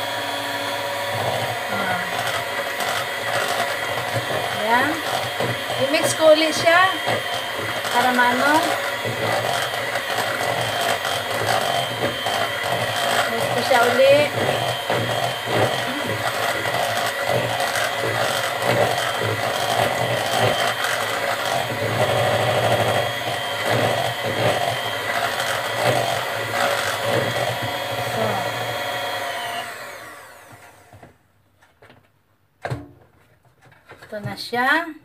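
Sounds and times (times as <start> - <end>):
electric hand mixer running: 0.0 - 31.2.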